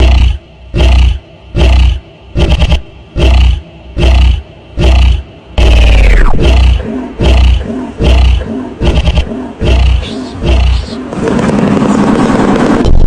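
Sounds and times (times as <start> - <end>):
loud animal call: 0.0 - 11.1.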